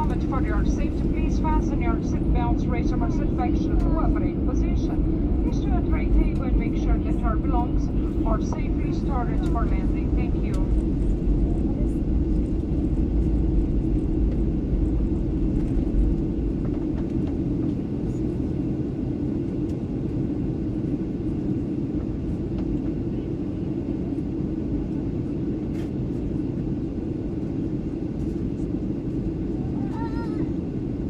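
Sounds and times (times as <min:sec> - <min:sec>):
turboprop engine cabin drone: 0:00.0 - 0:31.0.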